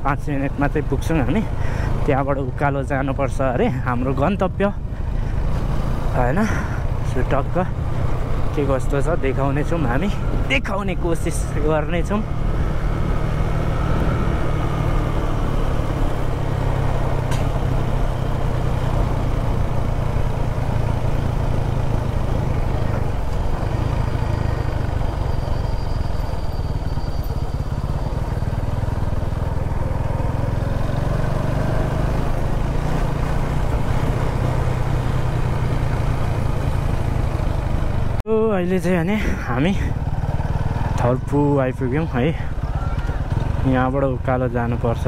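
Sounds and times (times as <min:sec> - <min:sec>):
motorcycle engine running: 0:00.0 - 0:45.0
road noise: 0:00.0 - 0:45.0.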